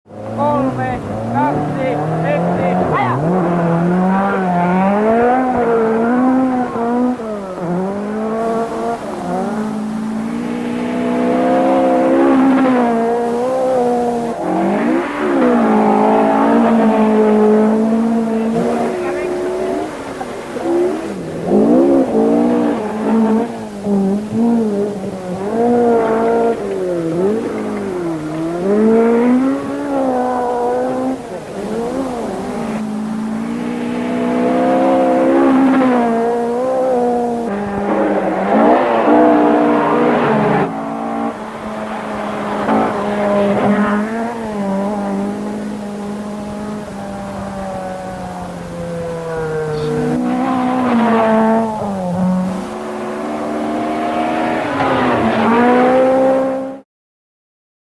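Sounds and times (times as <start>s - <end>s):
rally car engine revving: 0.1s - 56.8s.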